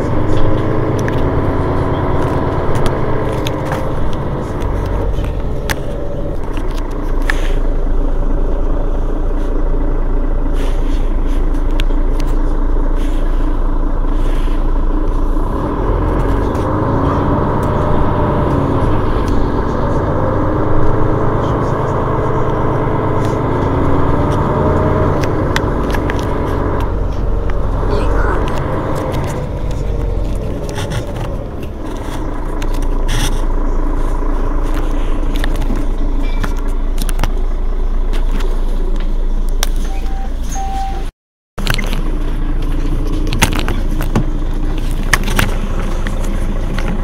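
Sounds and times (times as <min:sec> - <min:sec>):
bus engine idling: 0:00.0 - 0:47.0.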